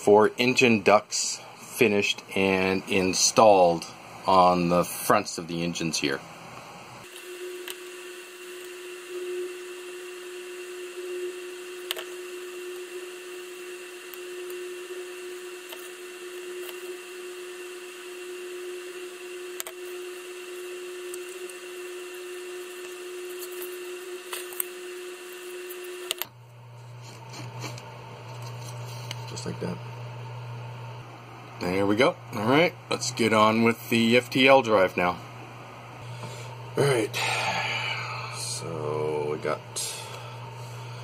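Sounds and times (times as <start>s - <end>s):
lower hum: 0.0s - 41.0s
steady hum: 0.0s - 41.0s.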